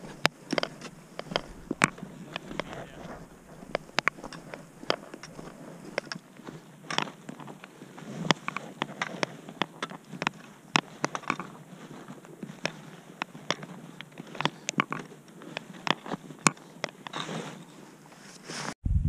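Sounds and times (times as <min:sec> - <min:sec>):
boots and pole on stony path: 0:00.0 - 0:18.8.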